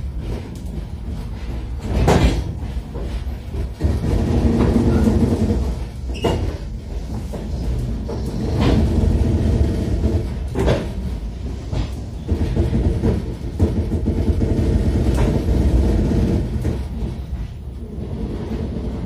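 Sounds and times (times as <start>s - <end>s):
train carriage rumble: 0.0s - 19.0s
wheels clacking over rail joints: 0.0s - 19.0s.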